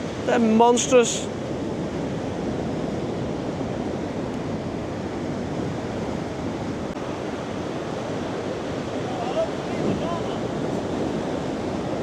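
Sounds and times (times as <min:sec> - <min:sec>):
waves breaking: 0:00.0 - 0:12.0
wind buffeting the microphone: 0:00.0 - 0:12.0.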